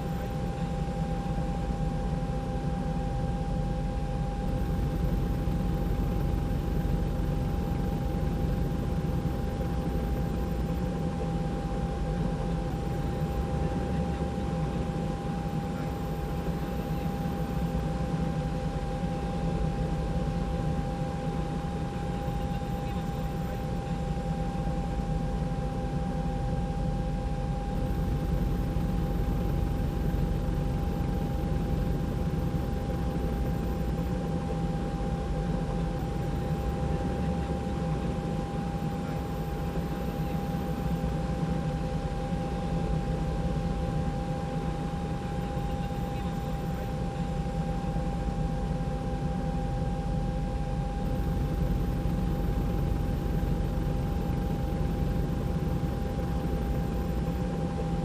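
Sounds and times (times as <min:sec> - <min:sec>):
helicopter noise from on board: 0:00.0 - 0:58.0.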